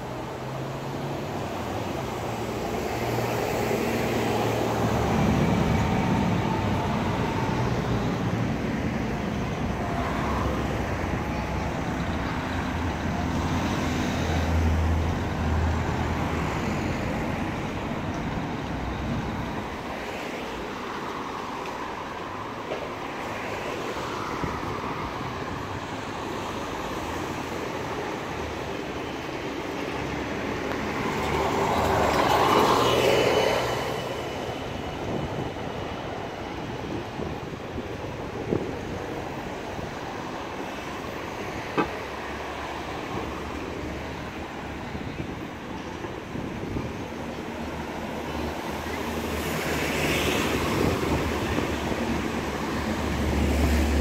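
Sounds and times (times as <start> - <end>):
city traffic engine hum: 0.0 - 54.0.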